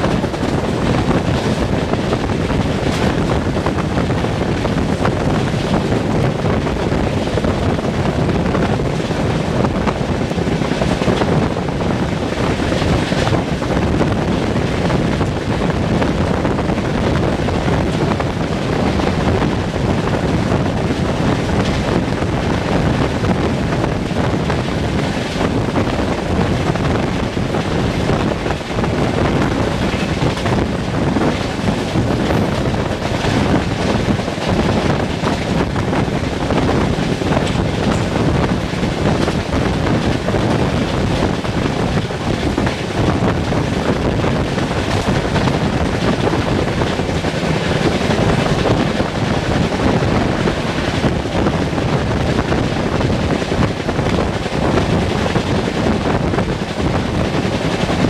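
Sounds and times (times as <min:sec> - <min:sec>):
train wheels rumbling on rails: 0:00.0 - 0:58.0
wind rushing past microphone: 0:00.0 - 0:58.0.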